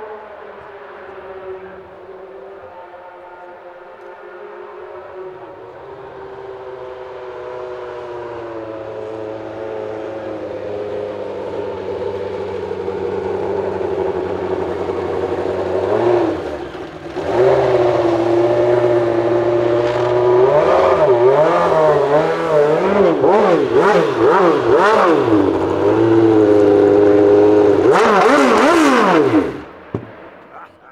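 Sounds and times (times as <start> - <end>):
racing car engine at high revs: 0.0 - 30.9.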